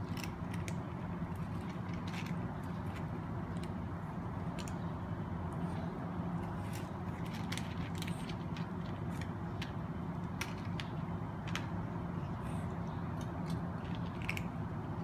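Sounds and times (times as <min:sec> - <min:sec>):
cats crunching dry kibble: 0:00.0 - 0:15.0
steady low hum: 0:00.0 - 0:15.0.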